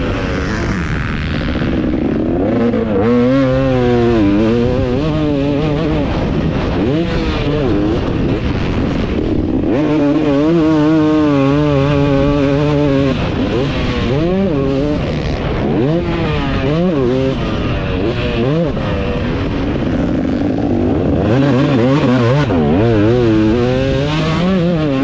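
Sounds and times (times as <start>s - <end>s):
motocross engine revving hard: 0.0s - 25.0s
wind rushing over microphone: 0.0s - 25.0s.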